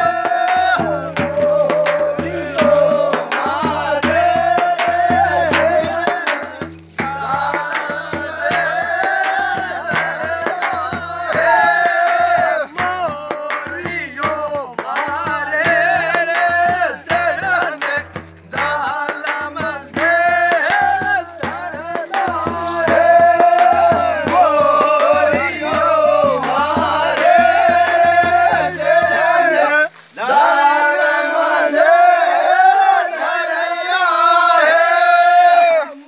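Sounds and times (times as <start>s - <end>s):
man singing: 0.0s - 32.2s
drums: 0.0s - 36.0s
group of men's voices: 0.0s - 36.0s.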